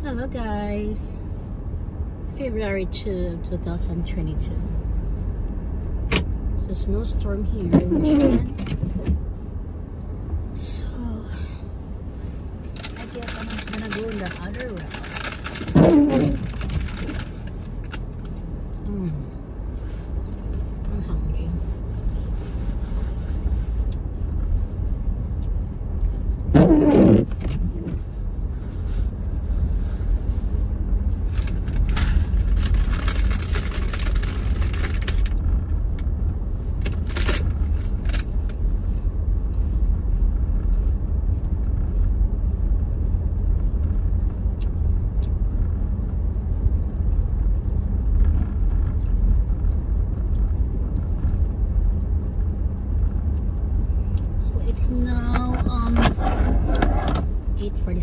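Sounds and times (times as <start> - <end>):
car cabin low rumble: 0.0 - 58.0.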